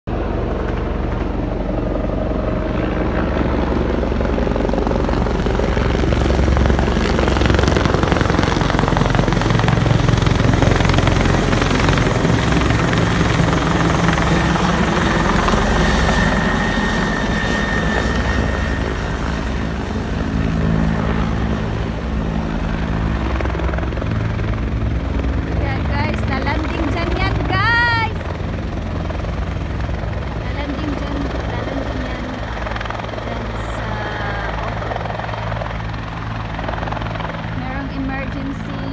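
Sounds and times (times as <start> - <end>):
helicopter rotor chopping: 0.1 - 38.9.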